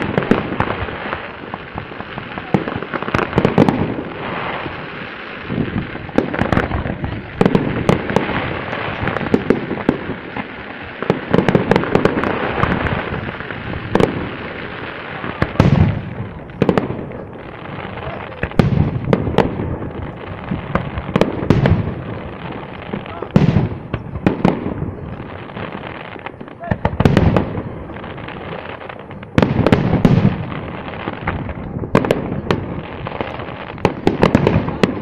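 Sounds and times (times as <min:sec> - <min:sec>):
dense firework crackling: 0:00.0 - 0:35.0.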